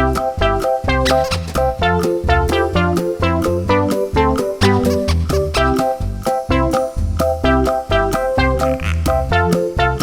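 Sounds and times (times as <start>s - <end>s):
upbeat swing music with guitar: 0.0s - 10.0s.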